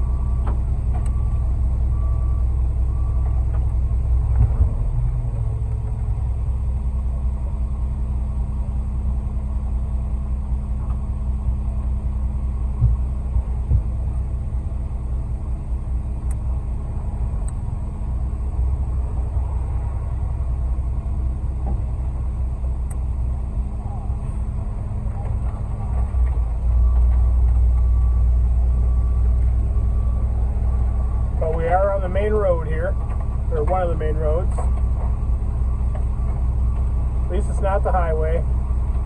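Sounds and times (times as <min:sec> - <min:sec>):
diesel truck engine rumbling: 0:00.0 - 0:39.0.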